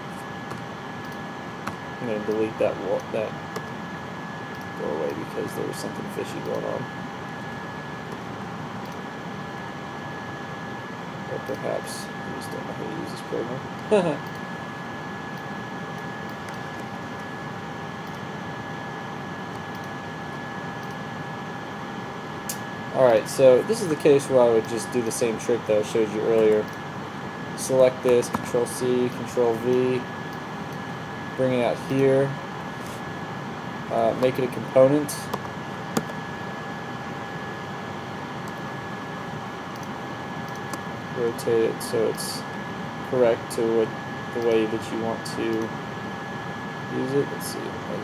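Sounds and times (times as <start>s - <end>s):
faint high whine: 0.0s - 48.0s.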